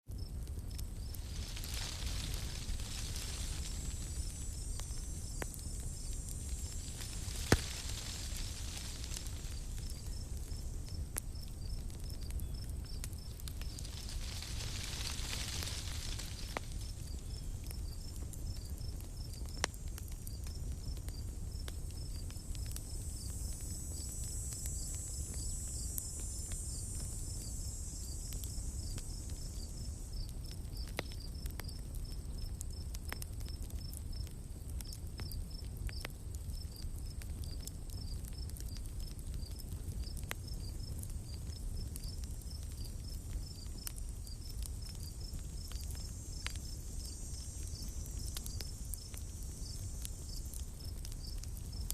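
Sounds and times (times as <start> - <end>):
campfire crackling and popping: 0.1 - 51.9
high hiss of insects: 0.1 - 51.9
insect high chirp: 0.2 - 51.9.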